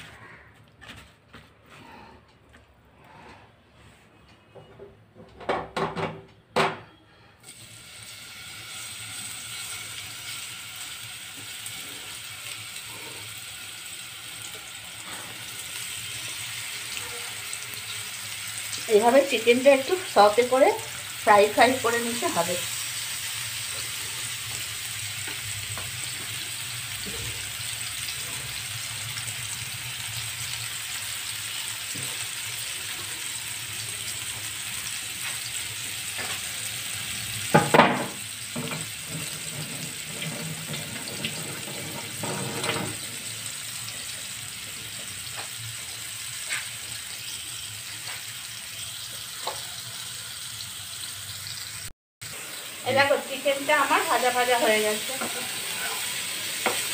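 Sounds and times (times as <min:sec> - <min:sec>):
chicken sizzling in frying pan: 0:07.5 - 0:56.9.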